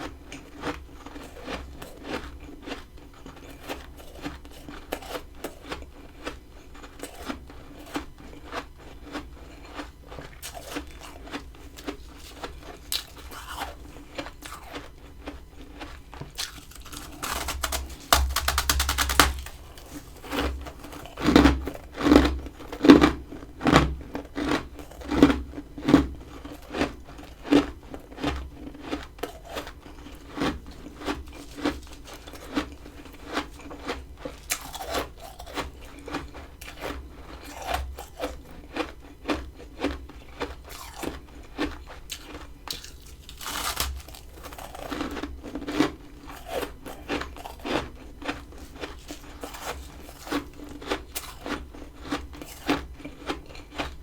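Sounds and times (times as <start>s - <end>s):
frost being chewed with crunches: 0.0s - 54.0s.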